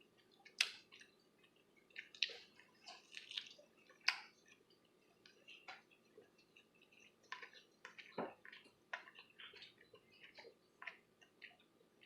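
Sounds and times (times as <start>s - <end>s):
wet mouth clicks chewing: 0.2s - 12.0s.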